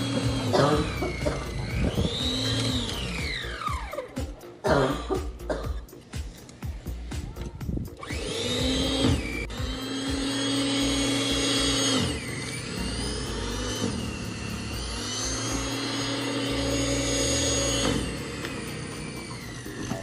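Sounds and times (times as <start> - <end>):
snow blower motor whining: 0.0 - 4.6, 6.3 - 20.0.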